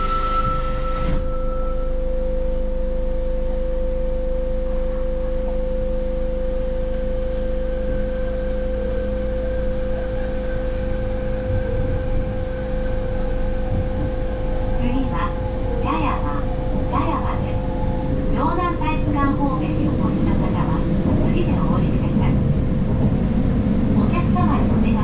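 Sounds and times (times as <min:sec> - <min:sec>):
low train running rumble: 0:00.0 - 0:25.0.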